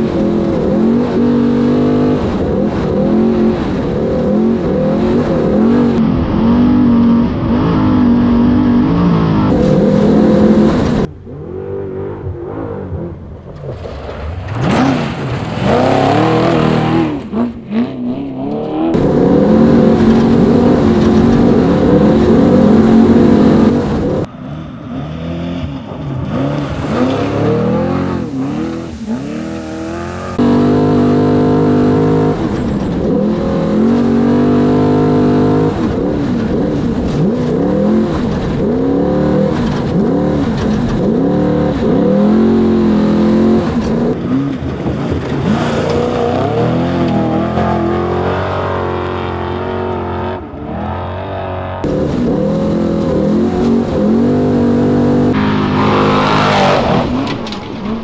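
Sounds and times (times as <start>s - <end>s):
truck engine revving hard: 0.0s - 13.2s, 14.5s - 58.0s.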